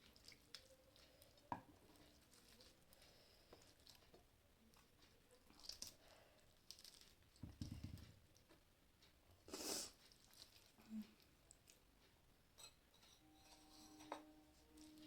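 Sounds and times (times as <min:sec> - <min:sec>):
quiet chewing: 0:00.0 - 0:13.2, 0:14.6 - 0:15.0
soft clicks of food: 0:00.0 - 0:13.2.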